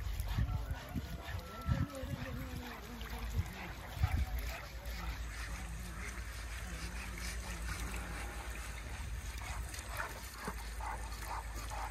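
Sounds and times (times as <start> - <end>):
hose water trickling: 0.0 - 11.9.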